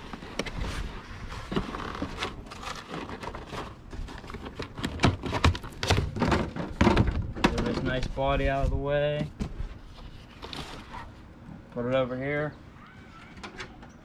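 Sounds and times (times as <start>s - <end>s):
cardboard scraping and rustling: 0.0s - 11.3s.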